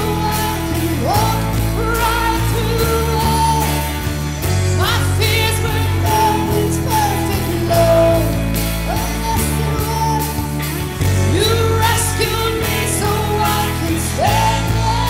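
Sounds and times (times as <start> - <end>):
band playing a song: 0.0 - 15.0.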